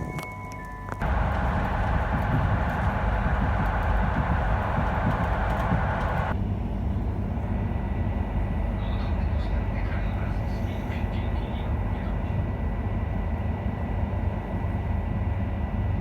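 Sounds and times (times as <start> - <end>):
train wheels rumbling: 1.0 - 16.0.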